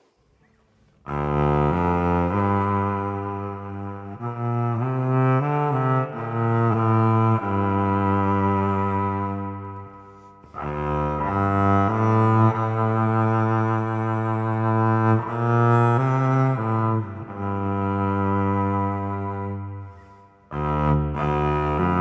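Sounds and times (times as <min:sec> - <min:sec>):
electric cello with heavy reverb: 0:01.0 - 0:22.0.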